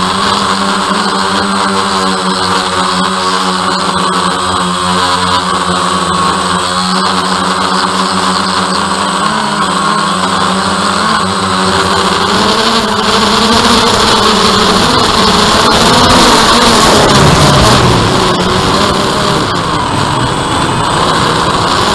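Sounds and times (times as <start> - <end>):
drone propellers humming: 0.0 - 21.9.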